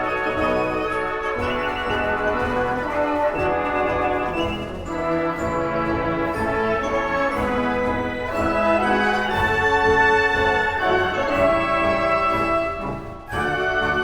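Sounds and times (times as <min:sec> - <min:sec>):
brass holding chords: 0:00.0 - 0:14.0
orchestra playing a march: 0:00.0 - 0:14.0.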